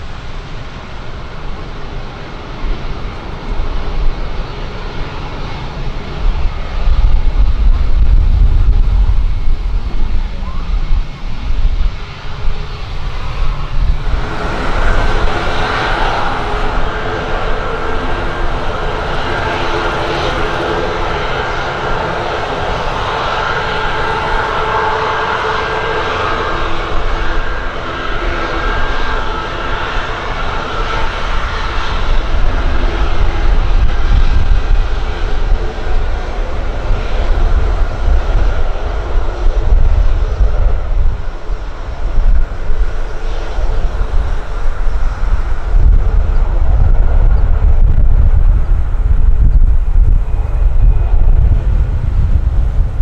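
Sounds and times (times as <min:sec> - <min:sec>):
jet engines whining: 0:00.0 - 0:53.0
deep uneven rumble: 0:05.0 - 0:53.0.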